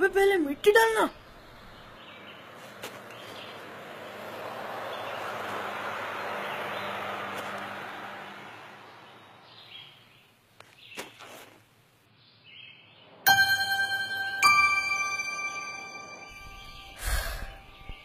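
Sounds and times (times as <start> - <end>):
outdoor rural noise: 0.0 - 18.0.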